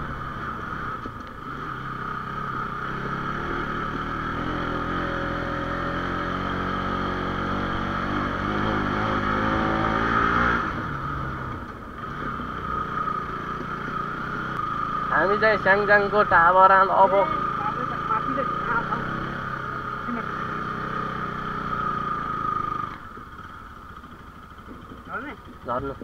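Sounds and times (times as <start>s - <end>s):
motorcycle engine pulling uphill: 0.0s - 26.0s.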